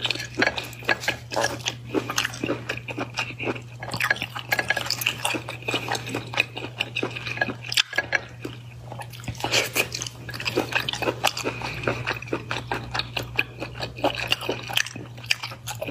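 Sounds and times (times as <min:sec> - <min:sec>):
chewing with wet mouth clicks: 0:00.0 - 0:15.9.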